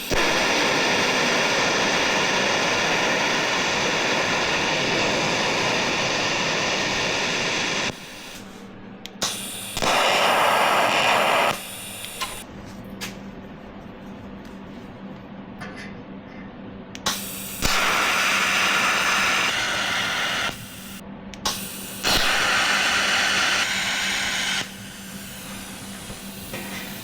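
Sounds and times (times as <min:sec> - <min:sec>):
arc welder crackling and sizzling: 0:00.0 - 0:12.5, 0:17.0 - 0:27.0.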